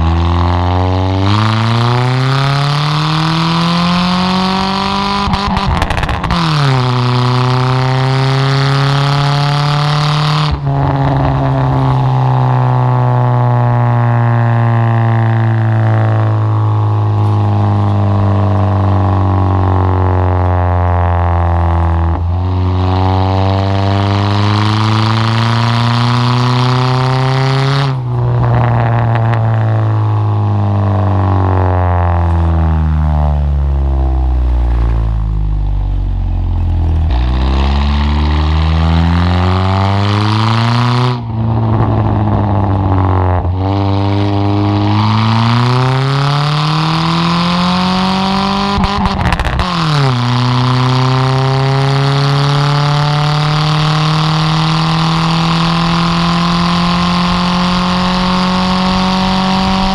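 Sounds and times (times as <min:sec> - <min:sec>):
pickup engine accelerating: 0:00.0 - 0:59.9.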